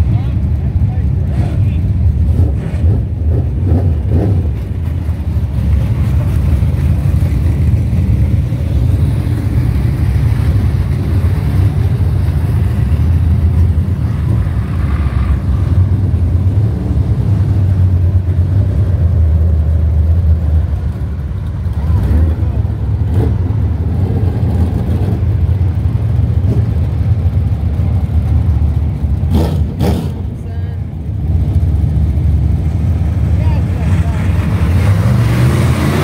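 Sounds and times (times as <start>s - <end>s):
race car engines rumbling: 0.0s - 36.0s.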